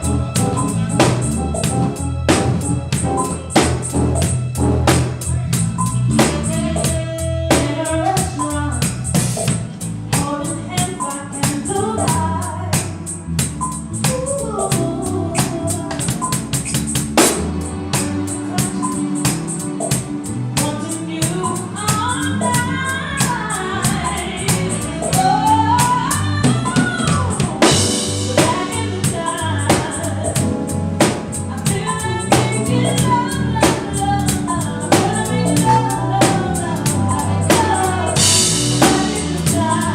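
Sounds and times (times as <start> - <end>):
drums: 0.0 - 39.9
person singing: 5.0 - 13.1, 14.0 - 16.6, 17.9 - 20.0, 20.6 - 39.9.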